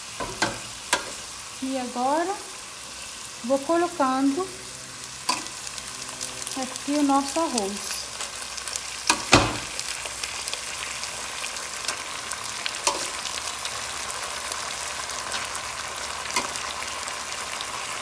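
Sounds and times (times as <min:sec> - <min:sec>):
peas sizzling in butter: 0:00.0 - 0:18.0.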